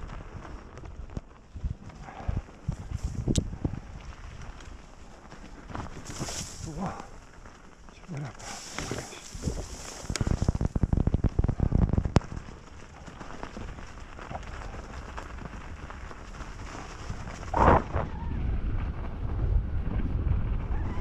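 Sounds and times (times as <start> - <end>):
wind buffeting microphone: 0.0 - 4.9, 8.3 - 21.0
bike tyres rumbling over snow: 0.0 - 21.0.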